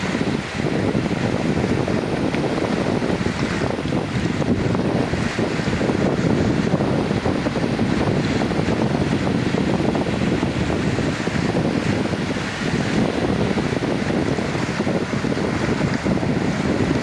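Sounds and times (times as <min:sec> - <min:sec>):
sea surf on a beach: 0:00.0 - 0:17.0
wind buffeting microphone: 0:00.0 - 0:17.0.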